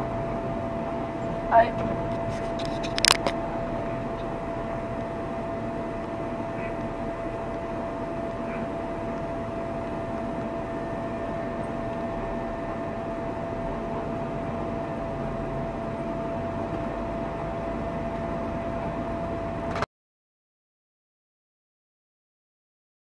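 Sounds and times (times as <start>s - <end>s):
constant high hum: 0.0s - 19.9s
vehicle road and engine noise: 0.0s - 19.9s.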